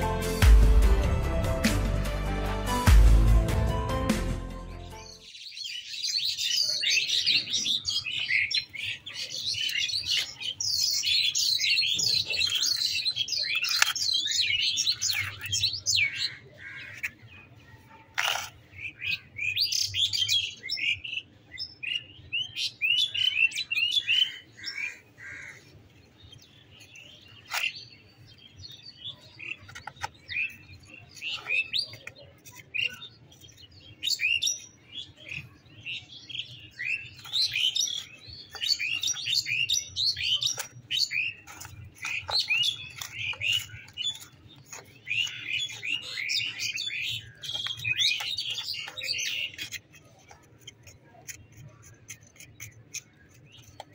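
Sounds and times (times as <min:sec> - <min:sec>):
small birds chirping: 0:04.9 - 0:53.9.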